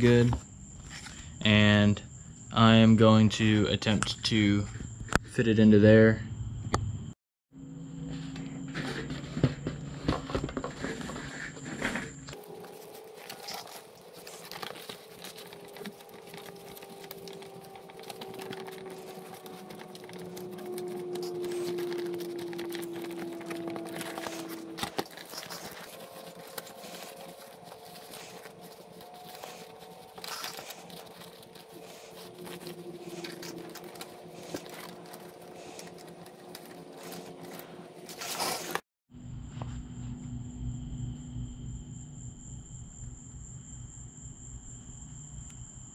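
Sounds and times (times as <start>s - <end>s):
faint hum dropping in pitch: 6.4s - 43.2s.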